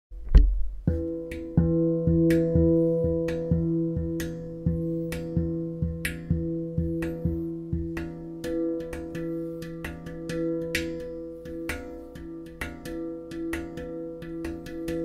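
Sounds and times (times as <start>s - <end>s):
handpan notes ringing: 0.8s - 15.0s.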